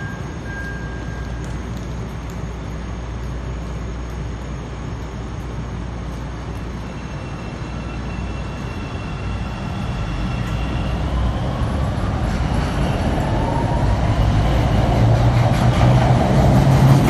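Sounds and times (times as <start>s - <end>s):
faint high whine: 0.0s - 15.0s
train rumbling: 0.0s - 17.0s.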